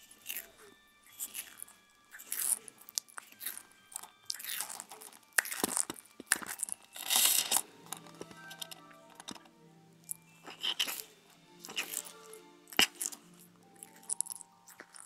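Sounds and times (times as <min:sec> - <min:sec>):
tortoise chewing fruit: 0:00.0 - 0:09.4, 0:10.0 - 0:15.0.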